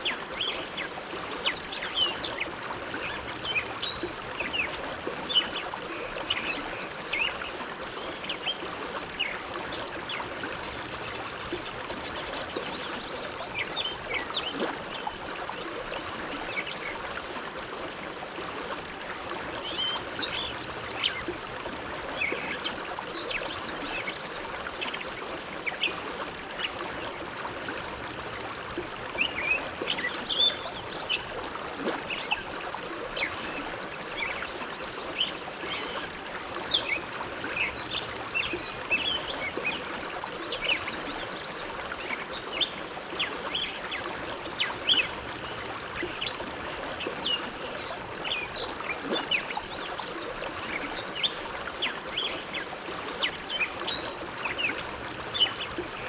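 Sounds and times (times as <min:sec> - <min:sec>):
river water rushing and gurgling: 0:00.0 - 0:56.0.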